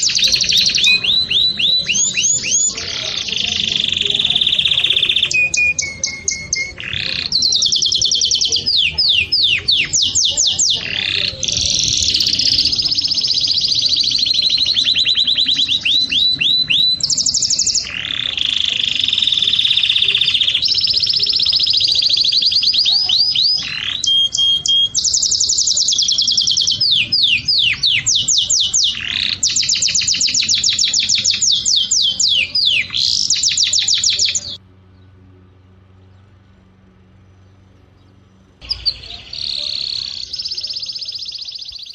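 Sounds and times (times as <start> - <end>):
songbird trilling: 0.0 - 41.9.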